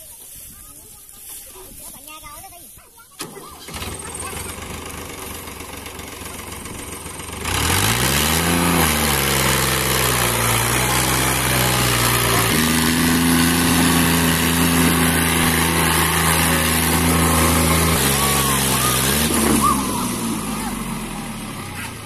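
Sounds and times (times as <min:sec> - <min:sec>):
tractor diesel engine: 0:03.1 - 0:22.0.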